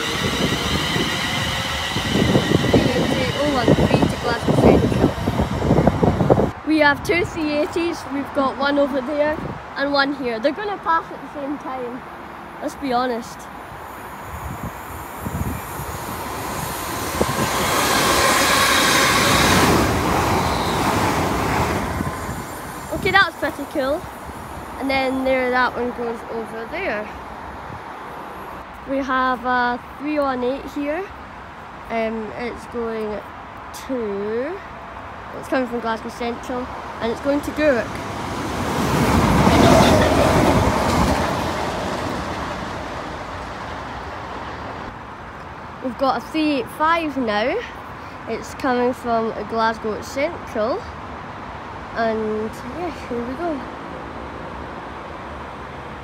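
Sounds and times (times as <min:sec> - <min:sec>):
trains passing: 0:00.0 - 0:56.0.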